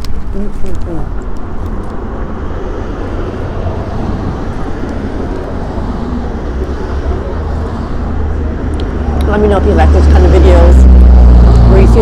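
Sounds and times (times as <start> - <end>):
cars passing rumble: 0.0 - 12.0.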